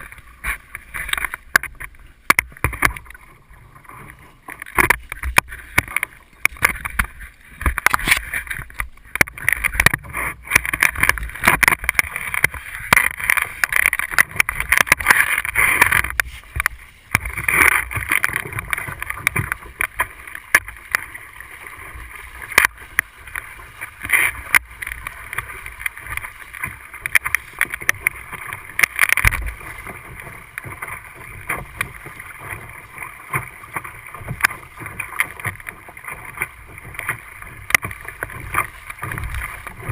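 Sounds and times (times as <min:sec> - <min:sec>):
water splashing against hull: 0:00.0 - 0:39.9.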